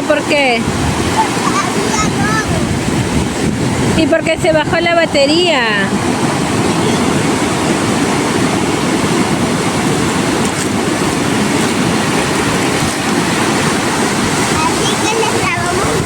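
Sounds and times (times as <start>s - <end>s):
ocean surf: 0.0s - 16.0s
wind buffeting microphone: 0.0s - 16.0s
wind rushing: 0.0s - 16.0s.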